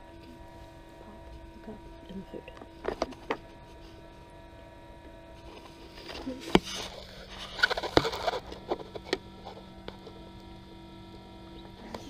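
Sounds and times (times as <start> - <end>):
incubator humming: 0.0 - 12.0.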